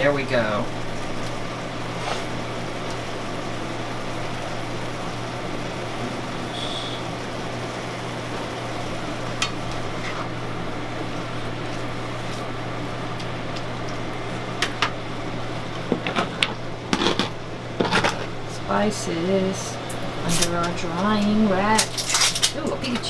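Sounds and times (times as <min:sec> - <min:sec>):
food frying in a pan: 0:00.0 - 0:23.0
low steady hum: 0:00.0 - 0:23.0.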